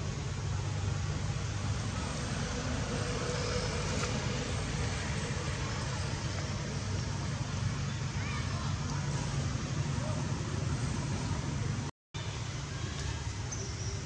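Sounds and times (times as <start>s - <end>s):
even outdoor hiss: 0.0s - 14.0s.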